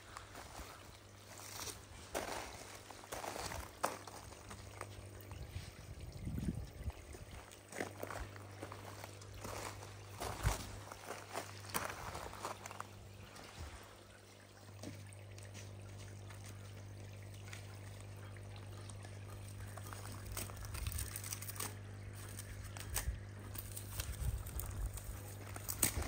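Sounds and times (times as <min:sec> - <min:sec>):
steady low hum: 0:00.0 - 0:26.0
water trickling and bubbling: 0:00.0 - 0:26.0.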